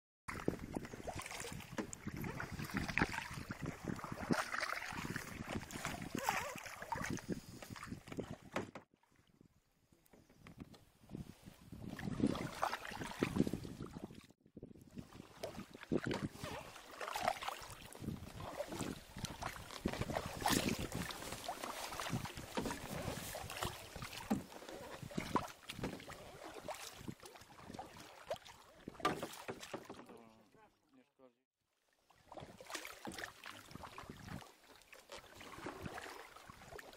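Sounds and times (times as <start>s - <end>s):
paddle splashing in water: 0.3s - 9.3s, 11.7s - 14.3s, 14.9s - 30.4s, 32.0s - 36.9s.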